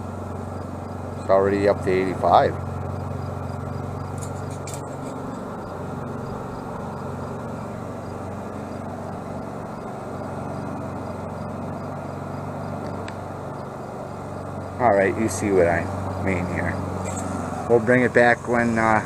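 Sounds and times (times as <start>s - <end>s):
air heater blower fan and burner: 0.0s - 19.0s.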